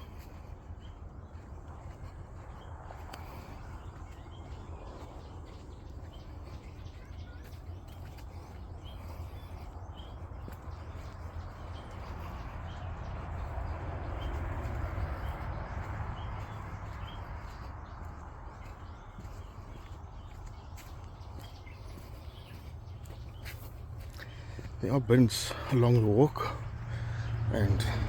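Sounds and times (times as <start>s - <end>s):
birds chirping: 0.0s - 28.0s
walking and handling noise: 0.0s - 28.0s.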